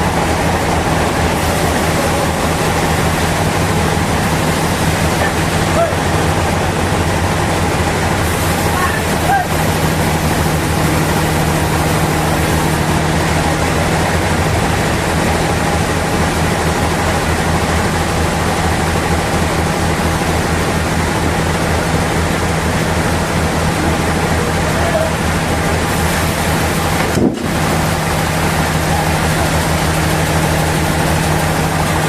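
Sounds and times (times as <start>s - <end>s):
sawmill machinery noise: 0.0s - 32.0s.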